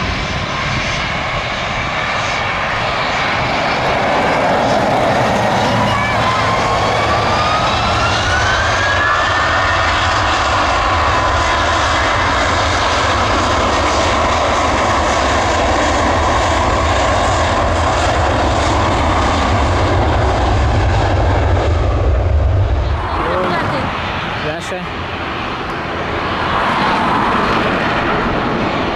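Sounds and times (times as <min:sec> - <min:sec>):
high engine whine: 0:00.0 - 0:28.9
jet engines roaring: 0:00.0 - 0:28.9.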